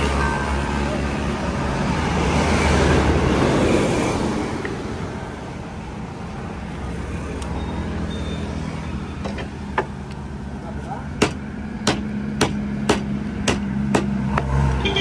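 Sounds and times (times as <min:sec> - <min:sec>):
road traffic: 0:00.0 - 0:15.0
vehicle passing: 0:00.0 - 0:15.0.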